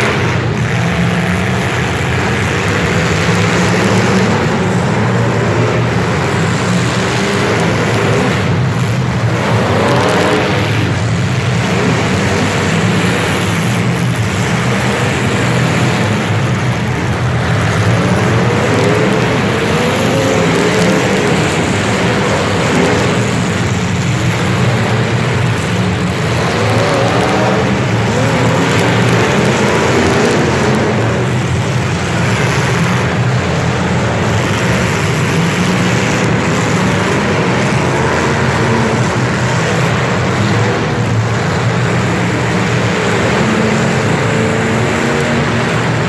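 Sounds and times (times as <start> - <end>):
vehicle engine running: 0.0 - 46.0.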